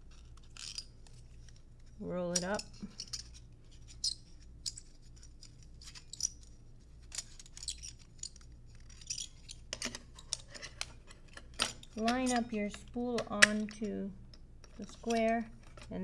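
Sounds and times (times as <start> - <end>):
film winding clicks and rustles: 0.0 - 16.0.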